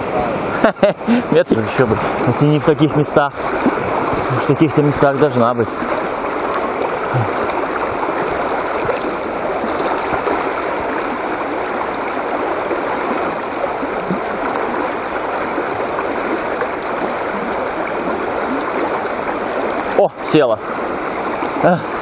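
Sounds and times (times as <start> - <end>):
river rushing over stones: 0.0 - 22.0.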